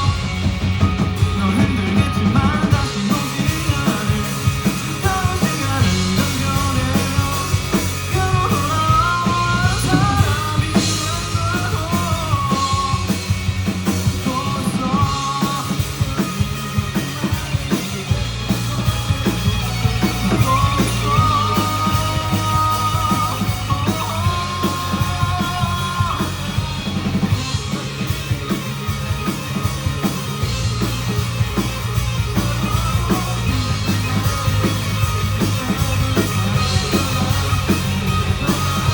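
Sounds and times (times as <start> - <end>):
bending lead melody: 0.0 - 38.9
rock band playing live: 0.0 - 38.9.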